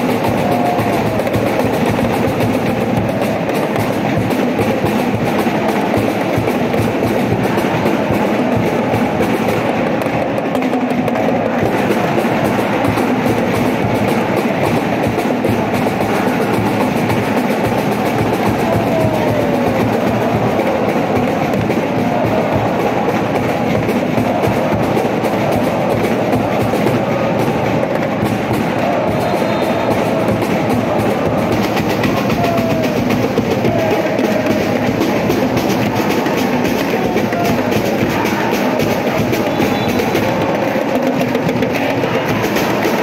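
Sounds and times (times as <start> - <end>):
crowd chanting and singing: 0.0 - 43.0.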